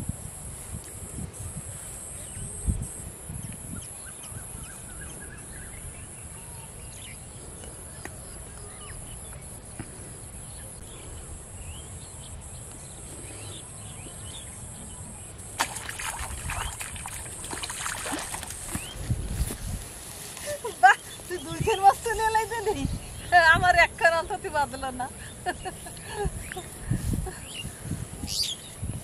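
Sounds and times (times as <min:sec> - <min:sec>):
insect drone: 0:00.0 - 0:23.3.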